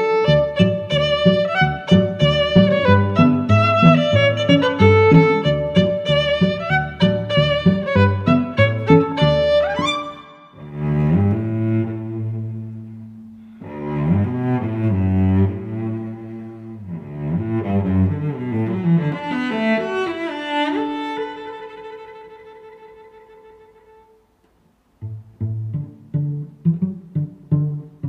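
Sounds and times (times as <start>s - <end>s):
instrumental music: 0.0s - 28.0s.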